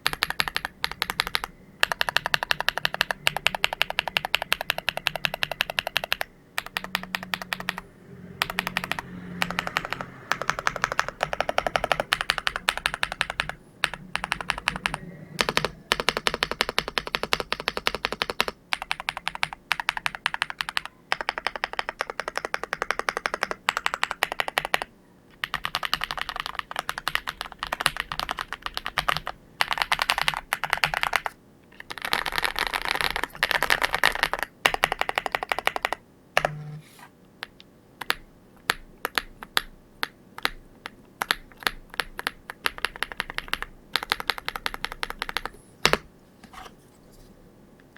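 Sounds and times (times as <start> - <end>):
mechanical keyboard typing: 0.0 - 7.8, 8.4 - 36.6, 37.4 - 46.1.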